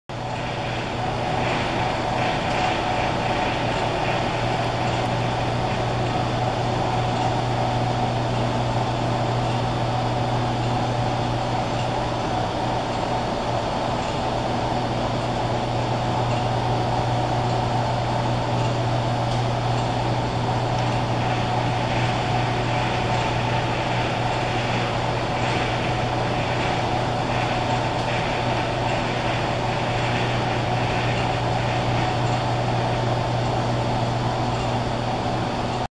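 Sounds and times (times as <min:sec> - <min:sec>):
electrical equipment hum: 0:00.1 - 0:35.9.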